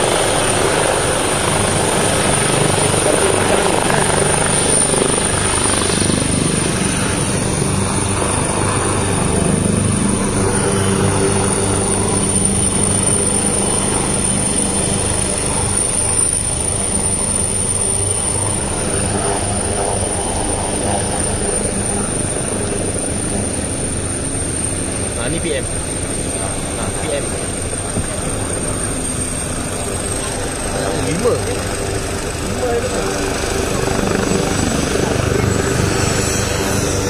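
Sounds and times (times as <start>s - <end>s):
helicopter rotor and engine: 0.0s - 37.0s.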